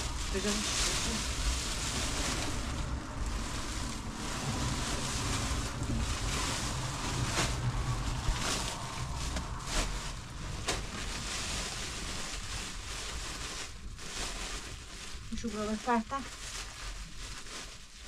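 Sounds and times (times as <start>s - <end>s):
steady low rumble: 0.0s - 17.6s
plastic bags rustling: 0.0s - 18.0s.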